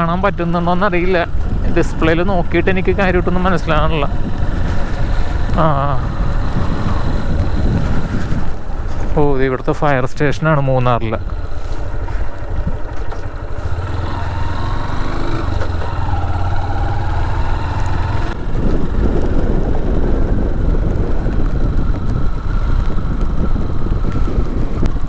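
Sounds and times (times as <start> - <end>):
motorcycle engine running: 0.0 - 9.4, 11.0 - 25.0
wind noise on microphone: 0.0 - 25.0.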